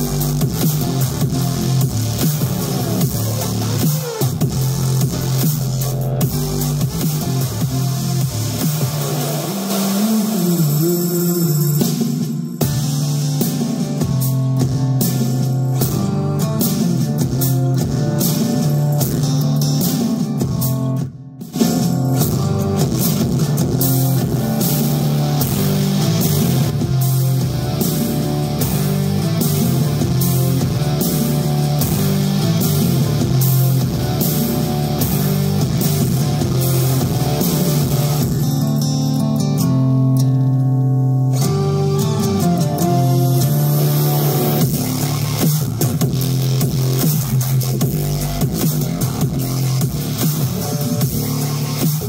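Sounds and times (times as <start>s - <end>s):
rock music through car speakers: 0.0s - 52.0s.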